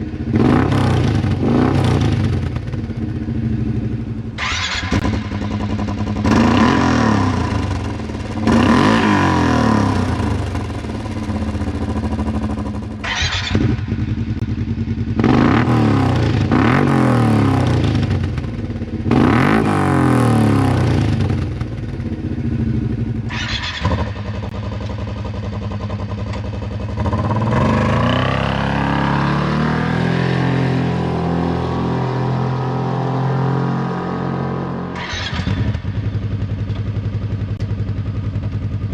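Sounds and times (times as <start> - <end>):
off-road vehicle engine revving: 0.0 - 36.3.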